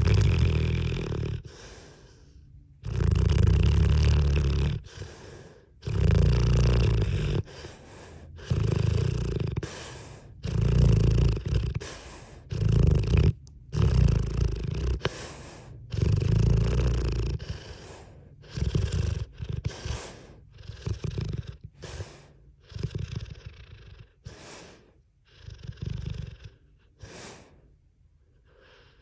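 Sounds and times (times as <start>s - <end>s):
pet snoring: 0.0s - 27.6s, 28.4s - 29.0s
quiet breaths: 0.0s - 29.0s.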